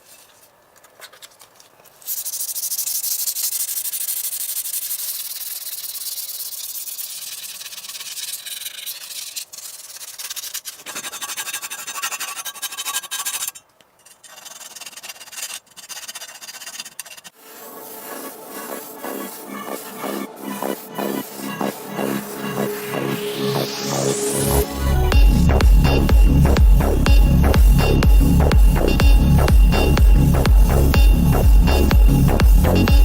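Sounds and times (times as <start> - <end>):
sandpaper scratching metal: 1.9 - 33.0.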